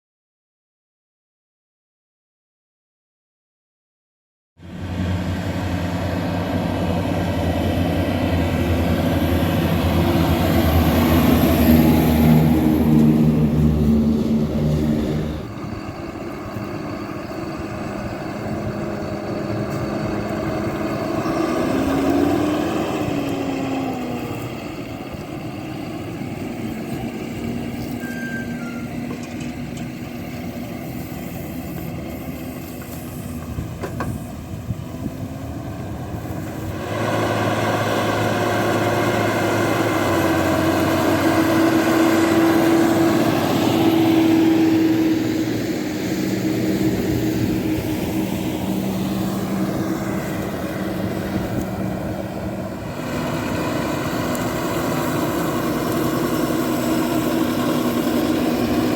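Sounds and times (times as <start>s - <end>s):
tractor diesel engine under load: 4.6s - 58.9s.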